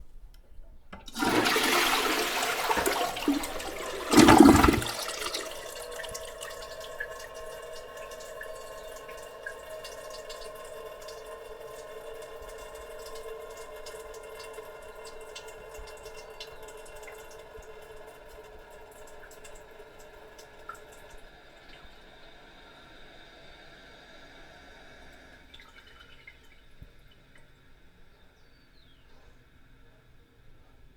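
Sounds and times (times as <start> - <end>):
toilet flushing: 0.9 - 27.5
cistern refilling with hiss: 1.1 - 29.1.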